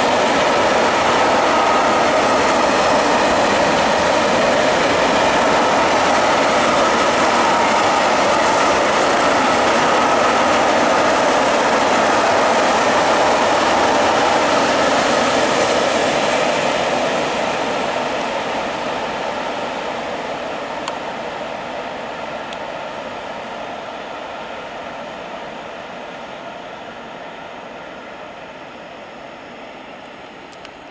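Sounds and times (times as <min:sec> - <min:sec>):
freight train rumbling on rails: 0:00.0 - 0:30.9.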